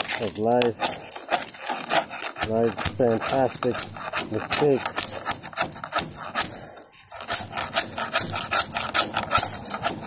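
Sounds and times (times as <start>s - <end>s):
steel scraper scraping fiberglass: 0.0s - 10.0s.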